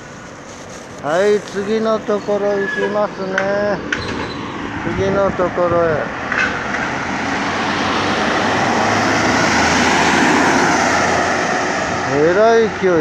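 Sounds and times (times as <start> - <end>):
minibus passing at speed: 1.0 - 13.0.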